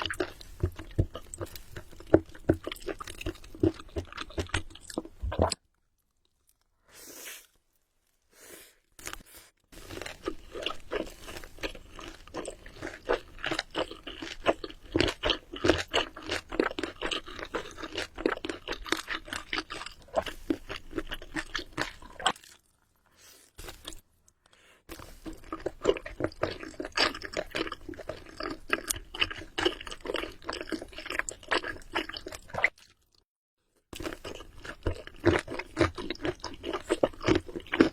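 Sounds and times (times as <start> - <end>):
crunchy food chewing: 0.0 - 6.8, 8.8 - 24.1, 24.9 - 33.2, 34.0 - 37.9.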